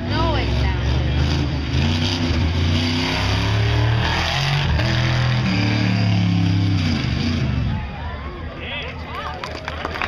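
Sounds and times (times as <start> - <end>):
truck engine revving: 0.0 - 8.1.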